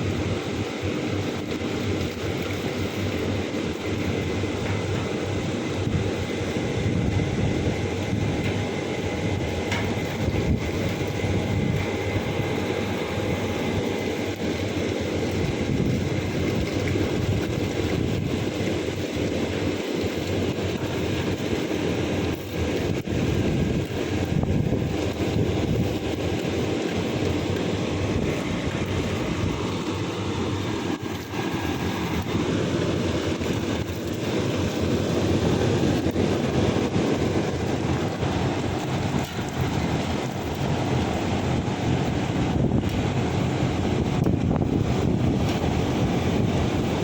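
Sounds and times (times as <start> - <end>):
air conditioner running: 0.0 - 47.0.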